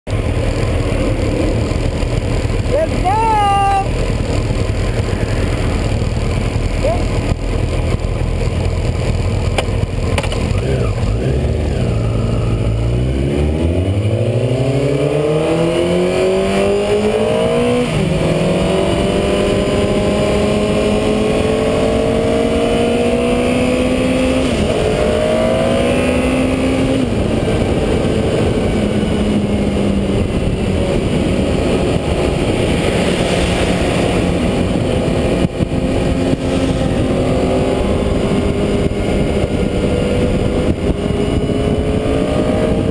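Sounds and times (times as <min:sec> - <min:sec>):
motorcycle engine accelerating: 0:00.1 - 0:42.9
wind rushing over camera: 0:00.1 - 0:42.9.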